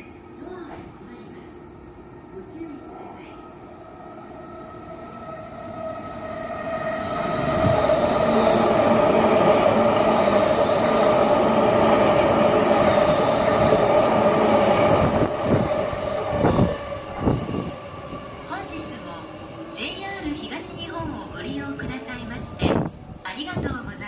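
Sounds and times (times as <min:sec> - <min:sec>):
electric train passing: 0:00.0 - 0:23.7.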